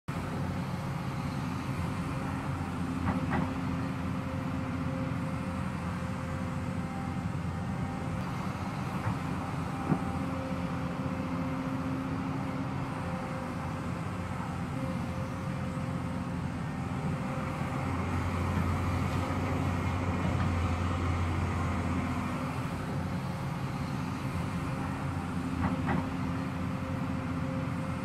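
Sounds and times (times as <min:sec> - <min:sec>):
excavator diesel engine running: 0:00.1 - 0:28.0.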